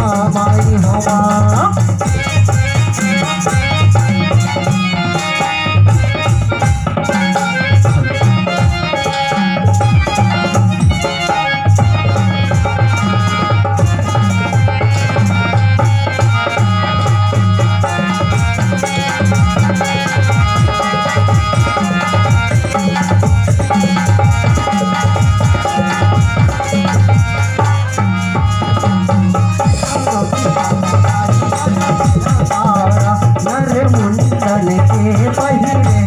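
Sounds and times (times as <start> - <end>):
electronic keyboard melody: 0.0 - 36.0
hand drum beat: 0.0 - 36.0.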